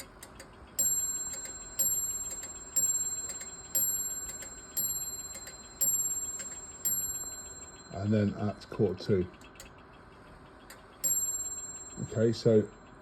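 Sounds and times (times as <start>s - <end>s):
mantel clock striking: 0.0s - 9.8s, 10.6s - 13.0s
clock ticking: 0.0s - 13.0s.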